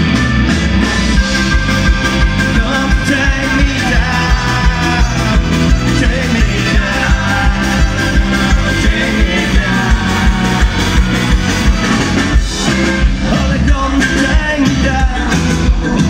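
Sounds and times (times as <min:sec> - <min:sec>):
bass: 0:00.0 - 0:16.0
electric guitars: 0:00.0 - 0:16.0
fast drum beat: 0:00.0 - 0:16.0.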